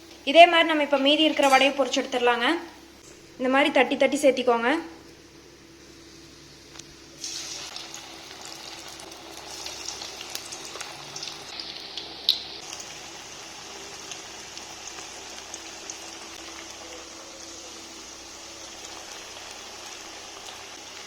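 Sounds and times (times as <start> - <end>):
patties sizzling in frying oil: 0.0 - 3.1, 5.7 - 21.0.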